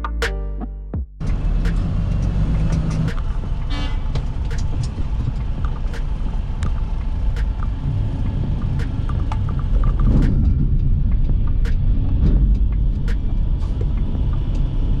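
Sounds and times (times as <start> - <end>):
sharp rattles and knocks: 1.2 - 15.0
truck engine running: 1.2 - 15.0.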